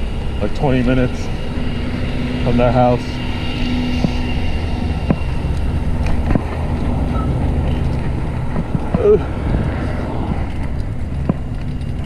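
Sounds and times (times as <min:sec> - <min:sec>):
low hum: 0:00.0 - 0:12.0
road rumble: 0:00.0 - 0:12.0
wind buffeting microphone: 0:00.0 - 0:12.0.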